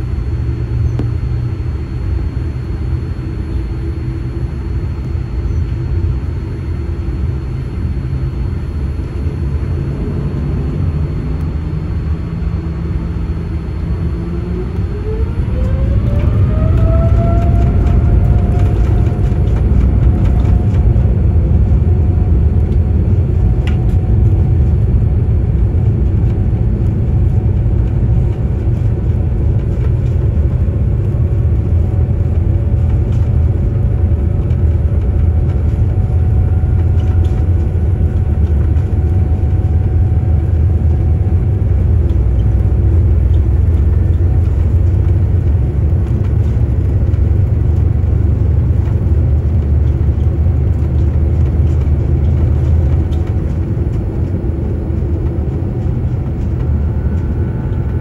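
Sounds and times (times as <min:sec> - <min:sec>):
faint engine whine: 0:00.0 - 0:58.0
low rumble of jet engines: 0:00.0 - 0:58.0.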